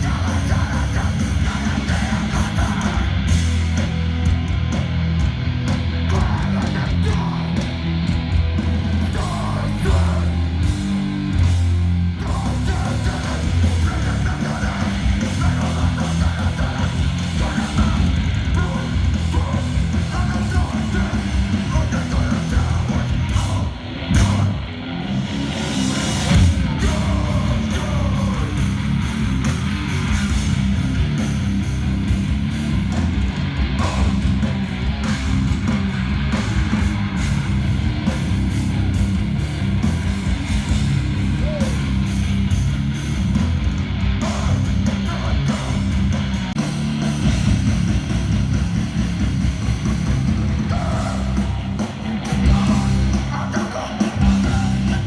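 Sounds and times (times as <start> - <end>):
distorted guitars: 0.0 - 55.0.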